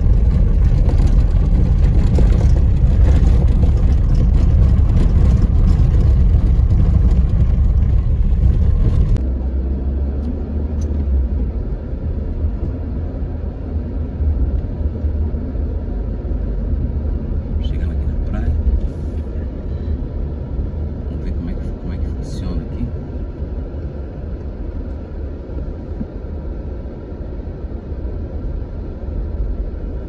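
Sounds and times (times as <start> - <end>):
car tyres and engine rumbling: 0.0 - 30.0.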